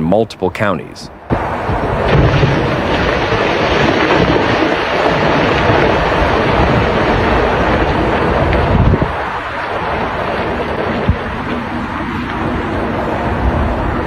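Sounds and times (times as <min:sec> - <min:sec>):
floodwater rushing roar: 0:00.0 - 0:14.0
wind buffeting microphone: 0:01.2 - 0:14.0.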